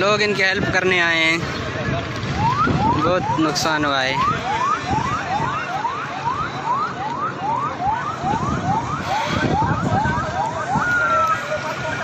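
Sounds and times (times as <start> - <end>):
crowd noise: 0.0 - 12.0
siren wailing: 2.3 - 12.0.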